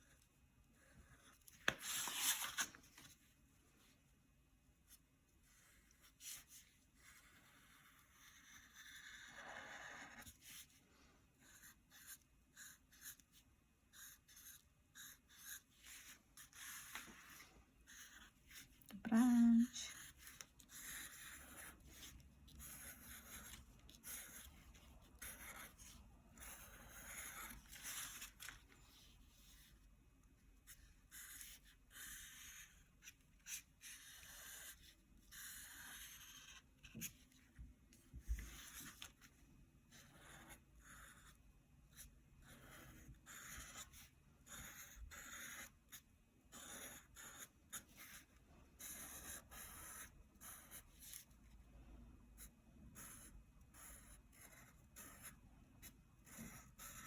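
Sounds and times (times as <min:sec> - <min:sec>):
marker pen scratching on paper: 0:00.0 - 0:02.6, 0:04.9 - 0:29.8, 0:30.6 - 0:39.3, 0:39.9 - 0:51.6, 0:52.4 - 0:57.0.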